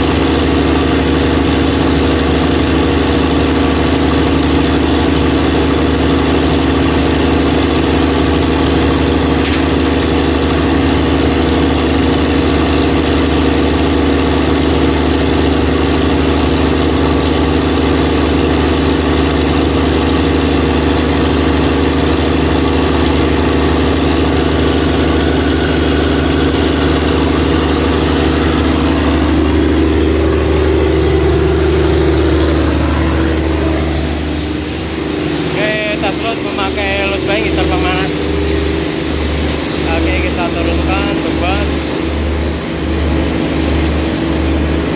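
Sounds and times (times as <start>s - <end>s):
diesel generator running: 0.0s - 44.9s.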